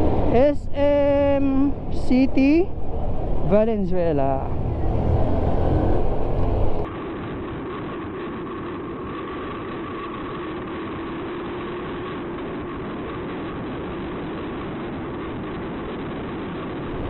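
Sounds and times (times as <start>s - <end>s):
muffled steady drone: 0.0s - 17.0s
wind rushing over microphone: 0.0s - 17.0s.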